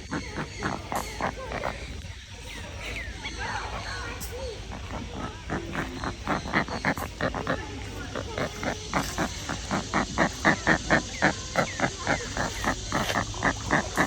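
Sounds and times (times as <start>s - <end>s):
bird grunting calls: 0.0s - 14.0s.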